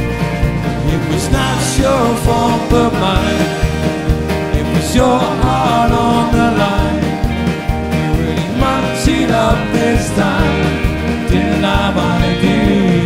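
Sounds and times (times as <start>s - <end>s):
bass guitar: 0.0s - 13.0s
drum kit beat: 0.0s - 13.0s
guitars: 0.0s - 13.0s
person singing: 0.7s - 13.0s.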